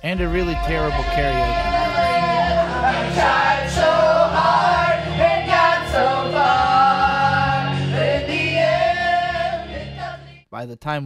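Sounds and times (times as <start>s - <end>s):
backing track music: 0.0s - 10.4s
people singing karaoke: 0.2s - 10.4s.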